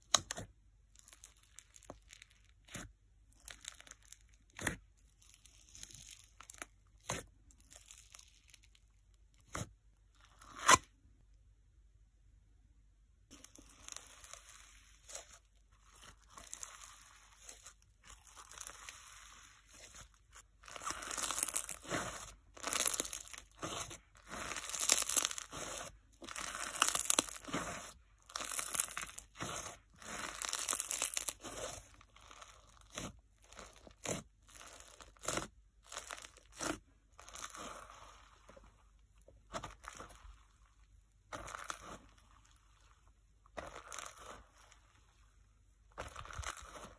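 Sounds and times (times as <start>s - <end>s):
slime crunching and fizzing: 0.0s - 10.8s, 13.3s - 46.9s.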